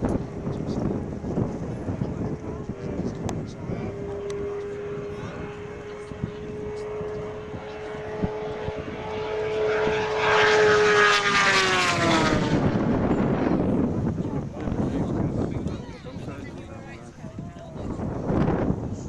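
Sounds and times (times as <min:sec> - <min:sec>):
propeller aircraft flying past: 0:00.0 - 0:19.0.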